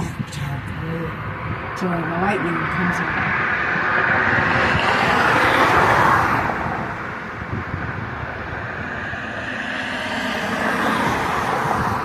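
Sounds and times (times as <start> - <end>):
vehicle passing by: 1.0 - 12.0.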